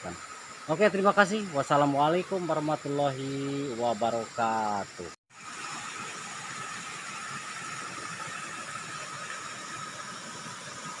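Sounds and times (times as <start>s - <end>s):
riverside hiss: 0.0s - 11.0s.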